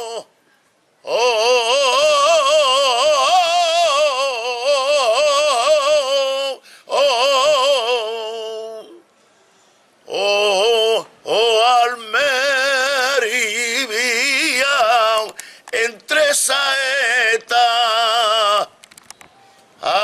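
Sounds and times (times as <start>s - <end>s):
man singing unaccompanied: 0.0s - 0.3s, 1.0s - 9.1s, 10.0s - 18.8s, 19.8s - 20.0s.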